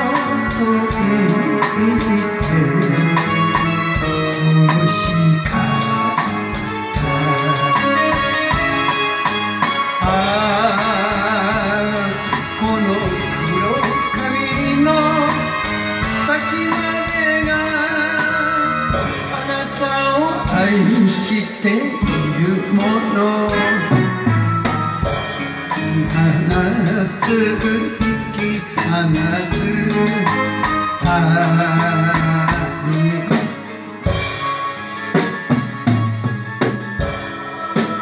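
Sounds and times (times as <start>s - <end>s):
man singing karaoke: 0.0s - 34.6s
drum kit playing: 0.0s - 38.0s
karaoke backing track: 0.0s - 38.0s.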